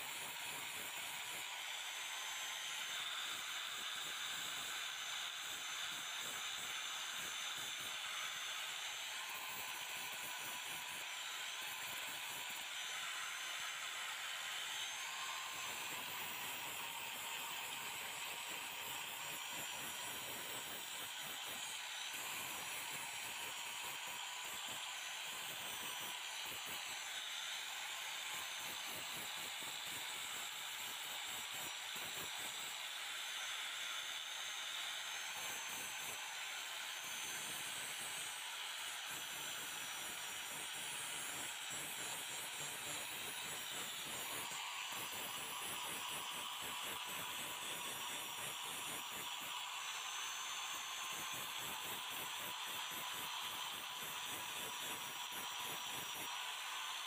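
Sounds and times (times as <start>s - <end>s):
angle grinder grinding metal: 0.1s - 57.0s.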